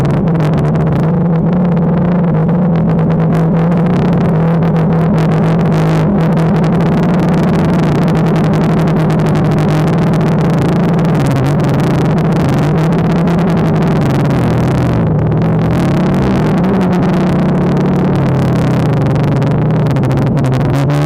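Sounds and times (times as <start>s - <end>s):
drone propellers buzzing: 0.0s - 20.8s.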